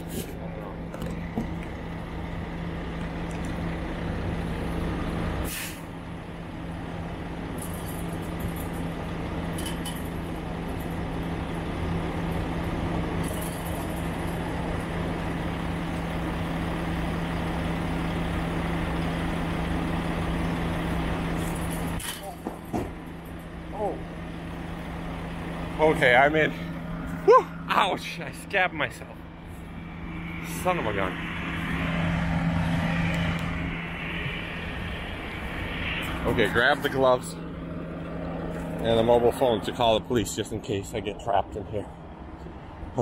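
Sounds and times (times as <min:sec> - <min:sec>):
diesel truck engine idling: 0:00.0 - 0:43.0.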